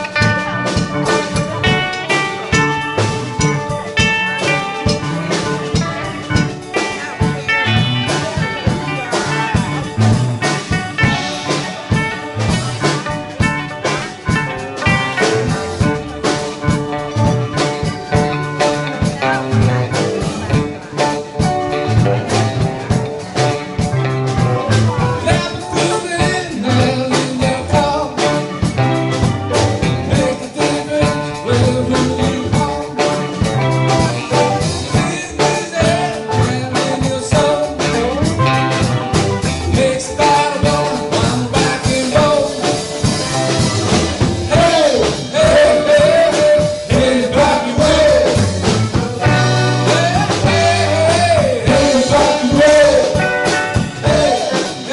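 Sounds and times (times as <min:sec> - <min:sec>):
live band playing: 0:00.0 - 0:54.9.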